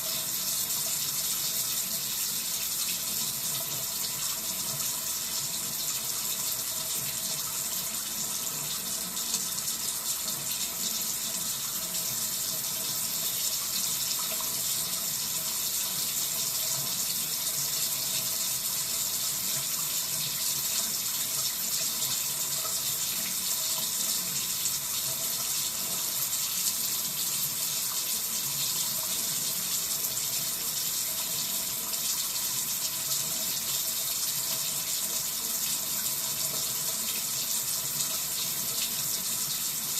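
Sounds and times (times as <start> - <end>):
tap water running into sink: 0.0 - 39.9.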